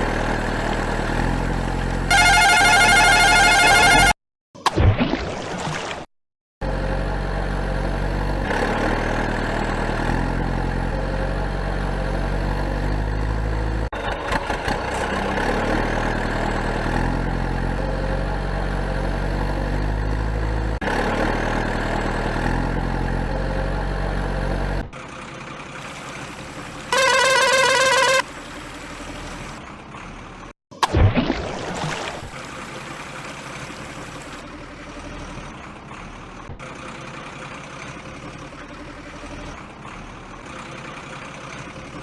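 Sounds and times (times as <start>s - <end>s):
tractor engine running: 0.0s - 4.1s, 6.6s - 30.6s, 32.4s - 42.0s.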